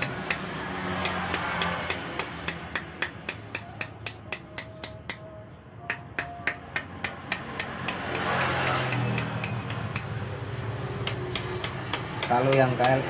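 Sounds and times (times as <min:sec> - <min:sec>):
small hammer tapping on steel: 0:00.0 - 0:05.3, 0:05.9 - 0:10.2, 0:11.0 - 0:13.0.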